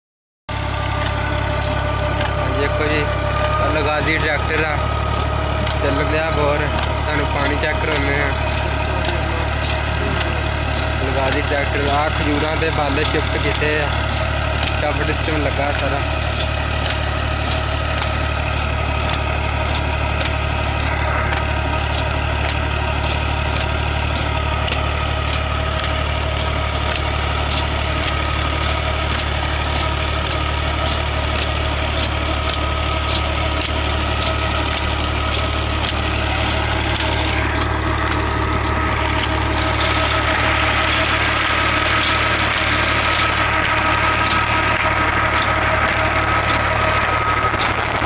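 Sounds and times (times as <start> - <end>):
tractor diesel engine running: 0.5 - 48.0
light regular ticking: 0.7 - 48.0.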